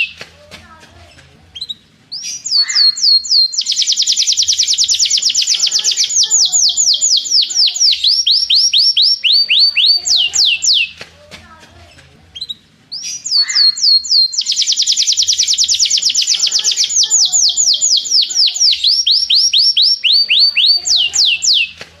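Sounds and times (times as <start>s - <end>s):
canary singing: 0.0s - 0.2s, 1.1s - 11.0s, 12.2s - 22.0s.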